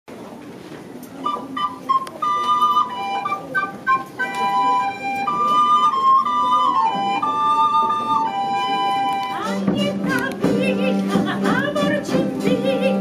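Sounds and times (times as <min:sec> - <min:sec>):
recorders playing a melody: 0:01.3 - 0:13.0.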